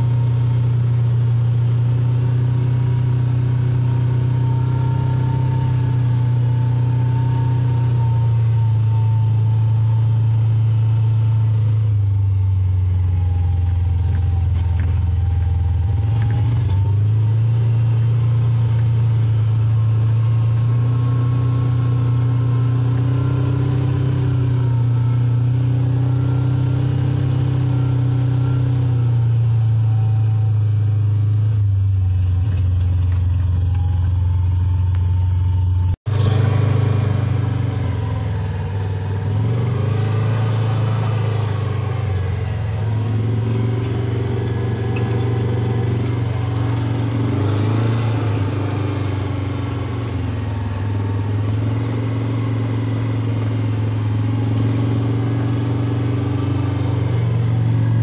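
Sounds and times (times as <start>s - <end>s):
utility vehicle engine droning: 0.0s - 58.0s.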